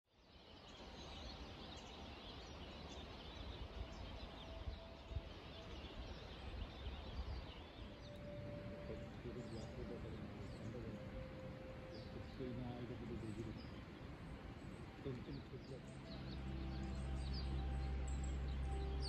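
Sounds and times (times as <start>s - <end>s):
birds chirping and singing: 0.2s - 19.0s
long low bird notes: 0.8s - 19.0s
faint low rumble: 3.4s - 19.0s.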